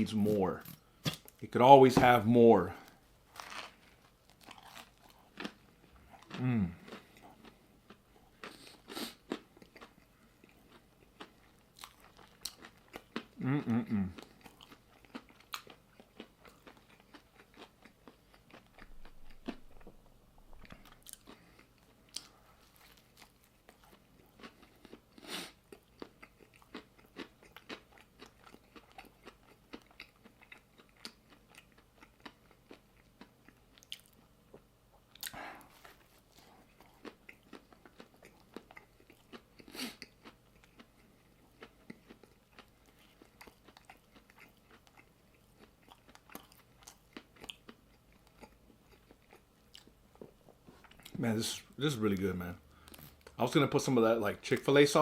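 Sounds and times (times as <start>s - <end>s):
chewing crunchy sandwich: 2.7s - 51.7s.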